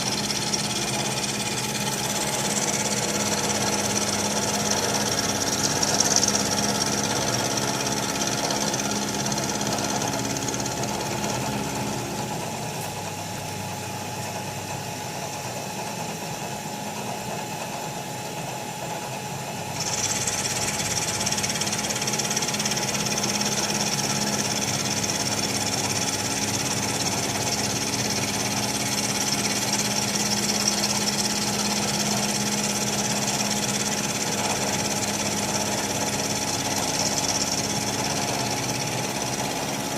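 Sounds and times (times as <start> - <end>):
milling machine hum: 0.0 - 39.9.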